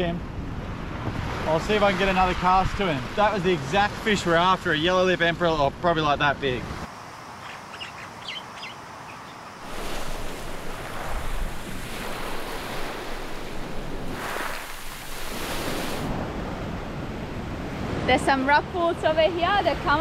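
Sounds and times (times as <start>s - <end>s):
surf washing onto beach: 0.7s - 6.8s, 9.6s - 20.0s.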